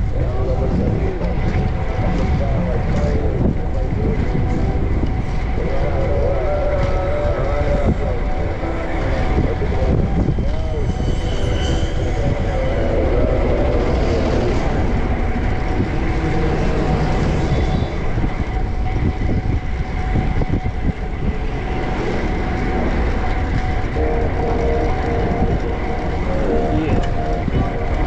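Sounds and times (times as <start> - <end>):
street noise: 0.0 - 28.0
vehicle humming: 0.0 - 28.0
wind rumbling on microphone: 0.0 - 28.0.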